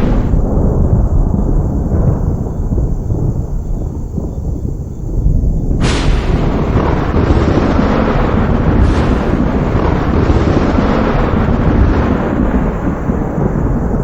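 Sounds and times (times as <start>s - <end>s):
thunder crack: 0.0s - 14.0s
thunder rumbling: 0.0s - 14.0s.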